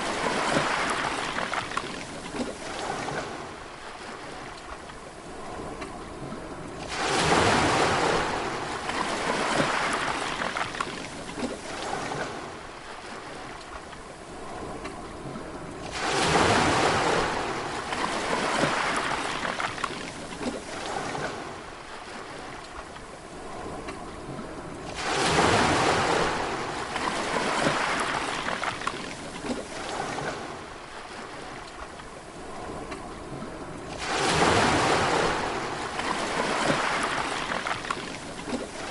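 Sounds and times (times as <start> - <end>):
sea waves breaking: 0.0 - 38.9
soft wash of water: 0.0 - 38.9.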